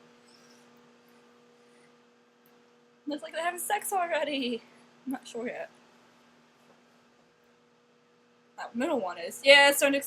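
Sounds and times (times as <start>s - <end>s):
microwave oven hum: 0.0s - 10.0s.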